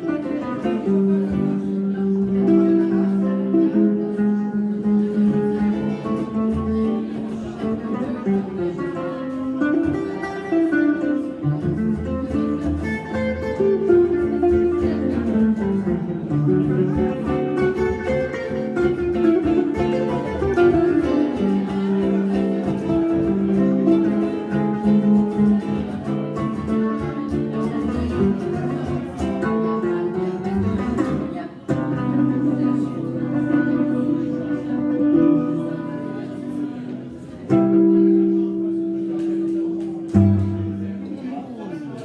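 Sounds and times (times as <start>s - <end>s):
amplified electric guitar: 0.0s - 41.2s
jazz guitar duo playing swing: 0.0s - 42.0s.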